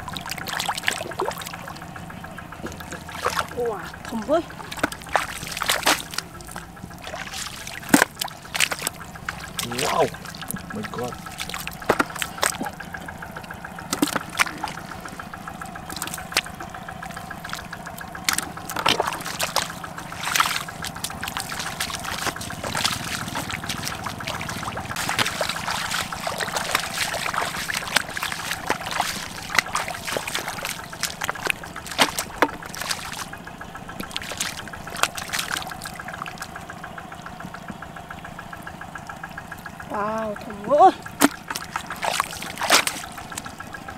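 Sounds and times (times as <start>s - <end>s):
mud squelching and splashing: 0.0s - 43.9s
steady low hum: 0.0s - 43.9s.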